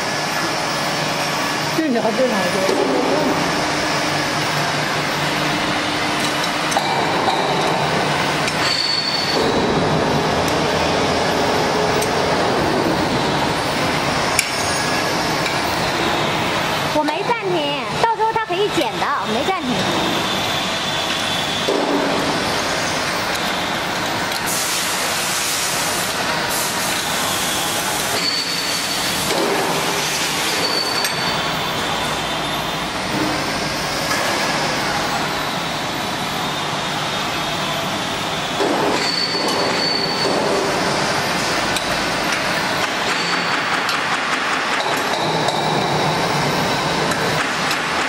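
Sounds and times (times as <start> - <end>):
mixer running: 0.0 - 48.0.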